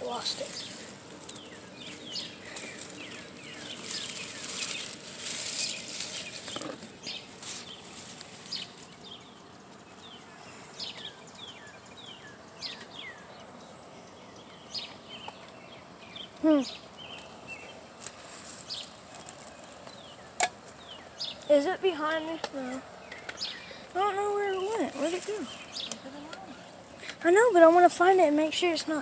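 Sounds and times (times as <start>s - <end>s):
grass rustling: 0.0s - 29.0s.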